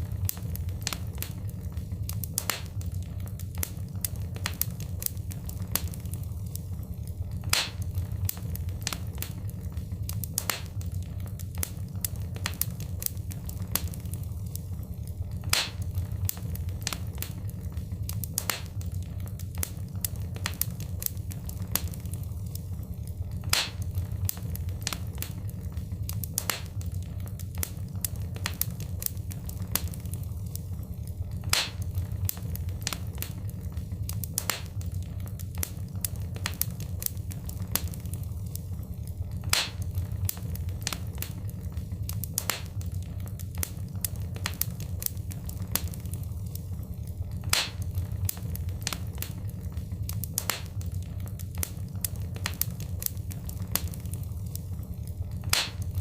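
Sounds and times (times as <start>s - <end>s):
low rumble of flames: 0.0s - 56.0s
wood fire crackling: 0.0s - 56.0s.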